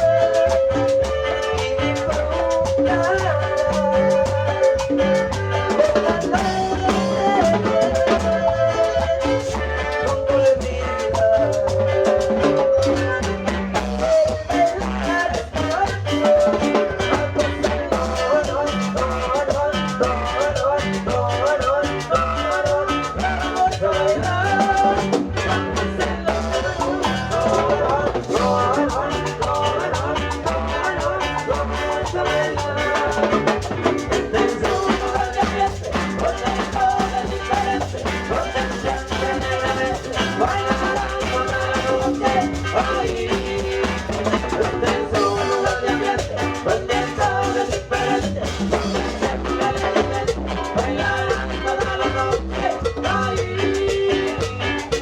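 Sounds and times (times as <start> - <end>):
drum kit and percussion beat: 0.0 - 55.0
latin dance band playing: 0.0 - 55.0.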